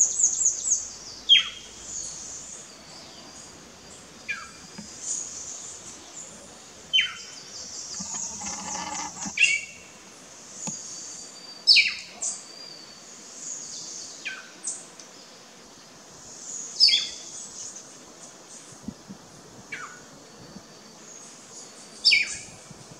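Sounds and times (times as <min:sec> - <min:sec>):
high chirping in background: 0:00.0 - 0:22.9.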